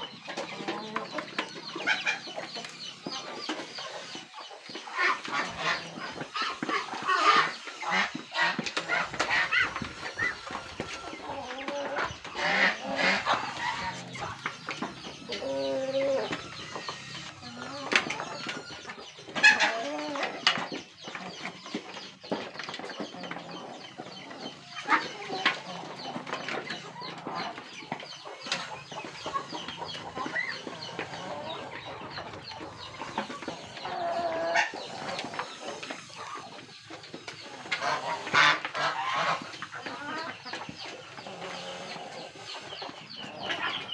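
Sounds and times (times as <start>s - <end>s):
beaks pecking at feed: 0.0s - 43.9s
chickens clucking: 0.0s - 43.9s.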